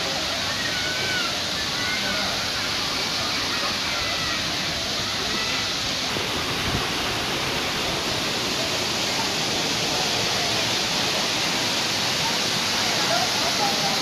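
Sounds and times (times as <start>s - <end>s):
faint crowd voices: 0.0s - 14.0s
waterfall pouring onto rock: 0.0s - 14.0s.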